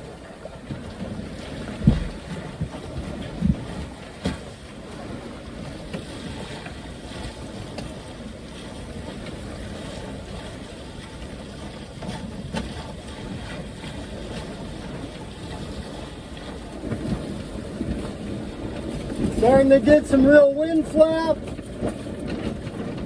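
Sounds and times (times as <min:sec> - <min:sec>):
wind and water rushing: 0:00.0 - 0:23.0.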